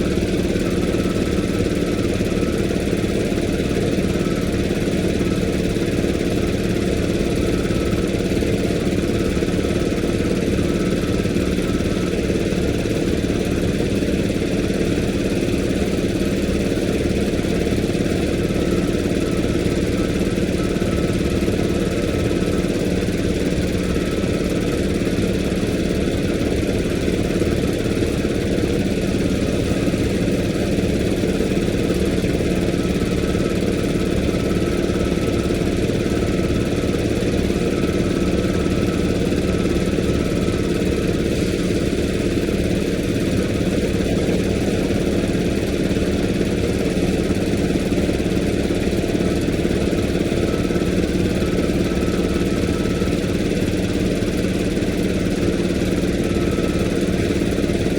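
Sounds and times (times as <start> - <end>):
engine idling: 0.0 - 57.9.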